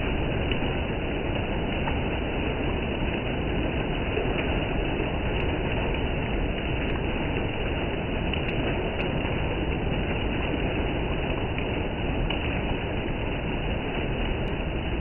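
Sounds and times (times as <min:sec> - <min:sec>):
heavy rain pouring on road: 0:00.0 - 0:15.0
raindrops ticking close by: 0:00.0 - 0:15.0.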